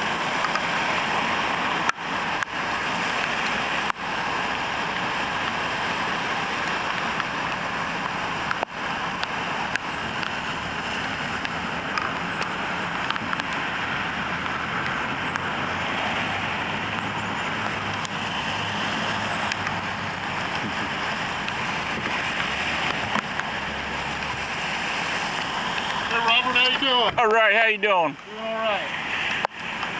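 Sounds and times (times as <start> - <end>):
wind on microphone: 0.0 - 26.2
road traffic rushing: 0.0 - 29.9.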